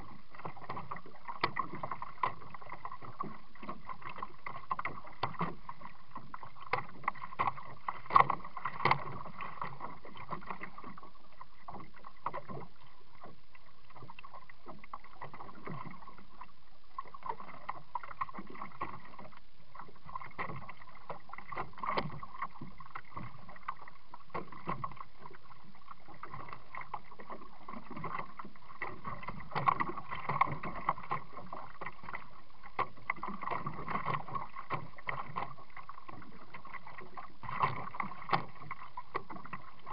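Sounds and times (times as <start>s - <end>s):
muffled paddle knocks and splashes: 0.0s - 39.9s.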